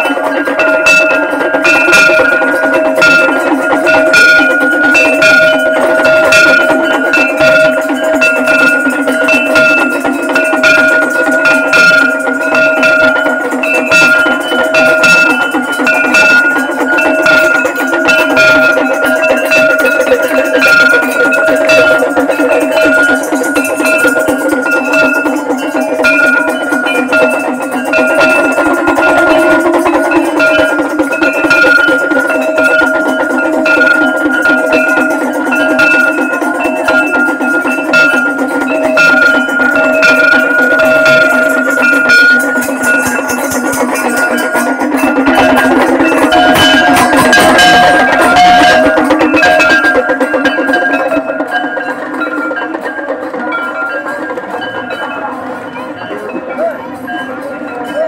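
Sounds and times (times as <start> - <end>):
brass plate beaten with stick: 0.0 - 55.0
ringing metallic tones: 0.0 - 58.0.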